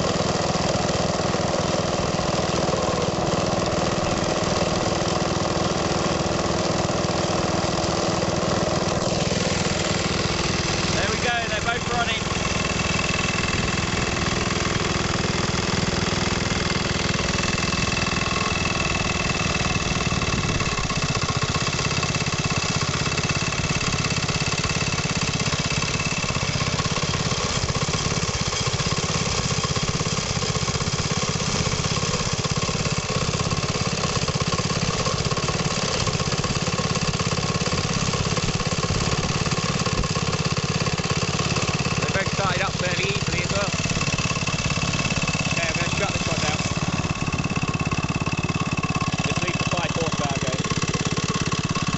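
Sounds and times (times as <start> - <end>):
small engines idling: 0.0 - 51.9.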